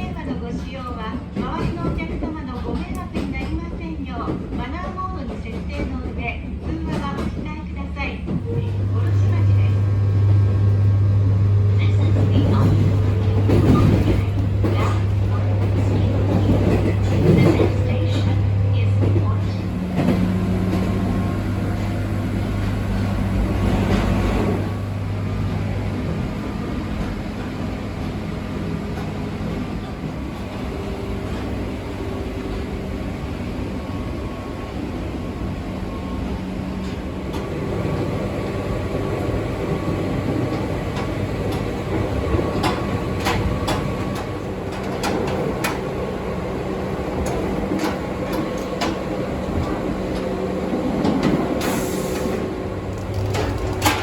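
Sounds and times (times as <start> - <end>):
electric train running rumble: 0.0 - 54.0.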